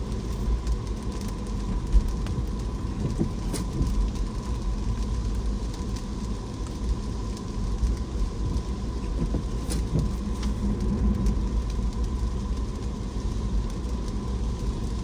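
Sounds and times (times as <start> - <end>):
car rumbling on road: 0.0 - 15.0
rain falling: 0.0 - 15.0
raindrops ticking: 0.0 - 15.0.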